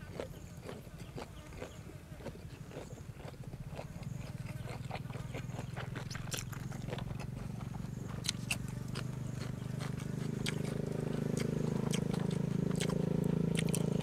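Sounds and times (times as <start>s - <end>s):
crunchy chewing: 0.0s - 14.0s
steady low hum: 0.0s - 14.0s.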